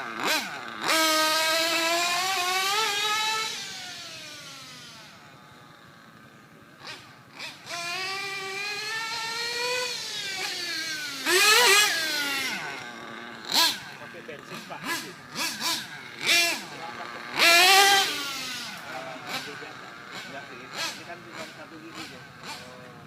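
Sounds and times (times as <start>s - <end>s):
model car engine whining: 0.0s - 23.0s.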